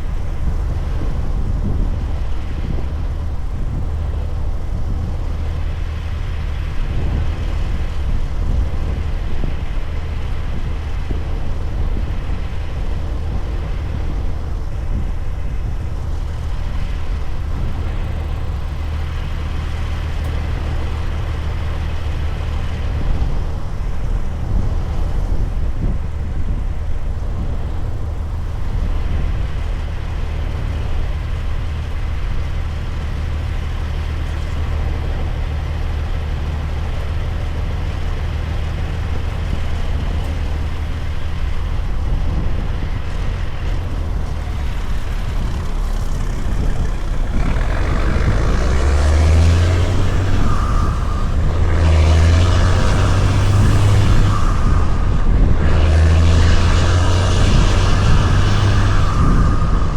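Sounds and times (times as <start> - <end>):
road noise: 0.0 - 59.9
truck diesel engine humming: 0.0 - 59.9.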